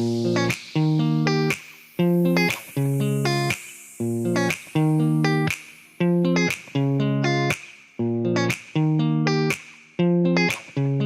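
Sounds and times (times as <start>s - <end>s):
plucked guitar-like chords: 0.0s - 11.0s.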